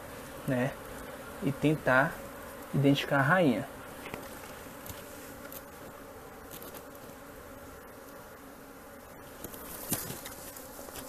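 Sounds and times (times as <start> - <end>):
bee swarm humming: 0.0 - 11.0.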